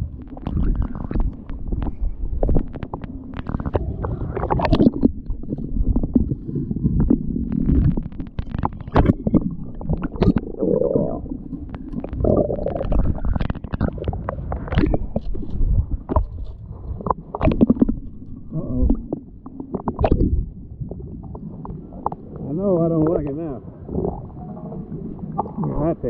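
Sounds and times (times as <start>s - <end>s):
muffled water sloshing: 0.0s - 26.0s.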